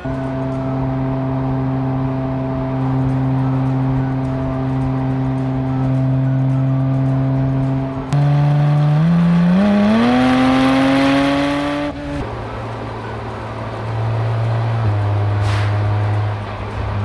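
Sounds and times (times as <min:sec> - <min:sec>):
car engine accelerating: 0:00.0 - 0:17.0
low engine drone: 0:00.0 - 0:17.0.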